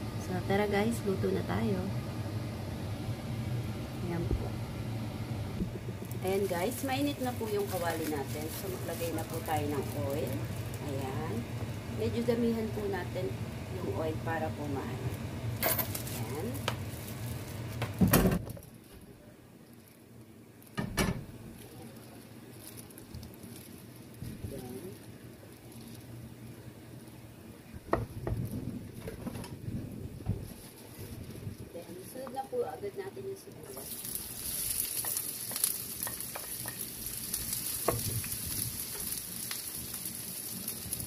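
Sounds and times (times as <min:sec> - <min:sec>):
cooking oil crackling: 0:00.0 - 0:19.0, 0:19.6 - 0:41.0.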